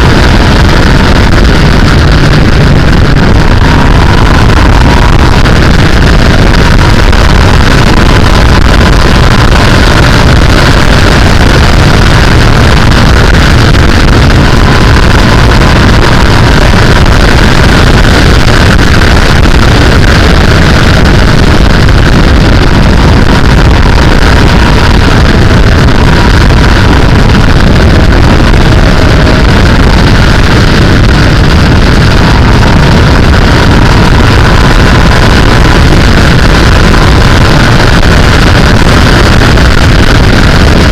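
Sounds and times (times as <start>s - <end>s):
motorcycle engine running: 0.0s - 39.7s
wind rushing over microphone: 0.0s - 40.9s.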